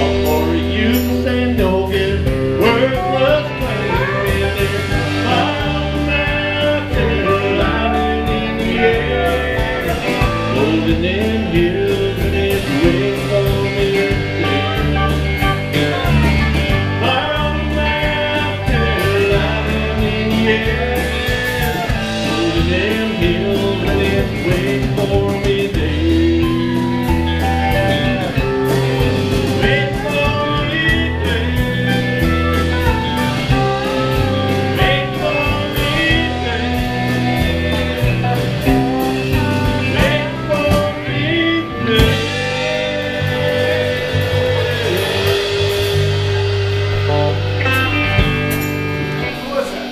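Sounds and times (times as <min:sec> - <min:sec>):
person singing: 0:00.0 - 0:48.4
country band playing: 0:00.0 - 0:49.9.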